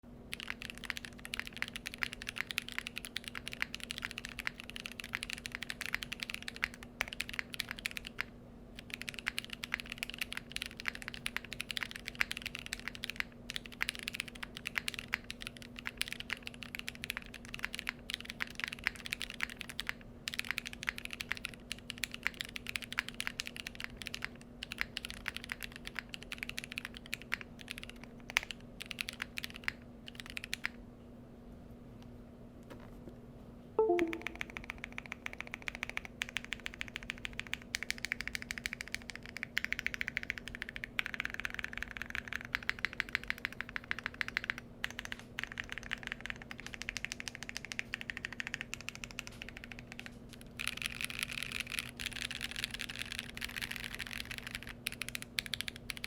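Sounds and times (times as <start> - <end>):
fast mechanical keyboard typing: 0.3 - 30.8, 33.8 - 56.0.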